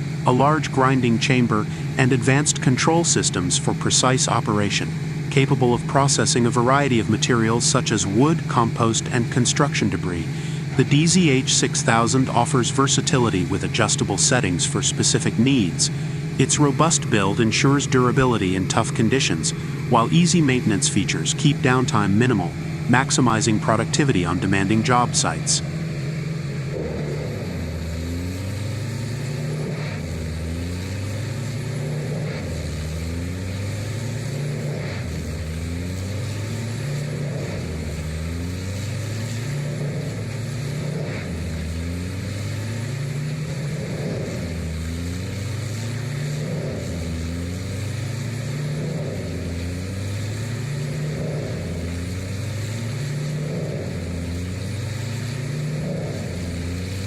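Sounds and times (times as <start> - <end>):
diesel machinery droning: 0.0 - 57.0.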